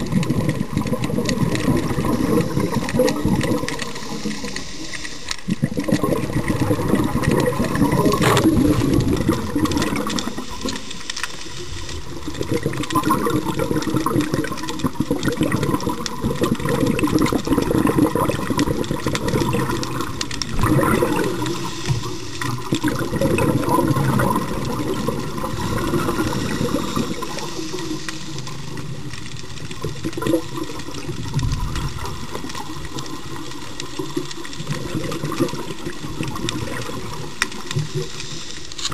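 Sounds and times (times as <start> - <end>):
scuba exhaust bubbles gurgling: 0.0 - 38.9
spiny lobsters clicking and rattling: 0.0 - 38.9.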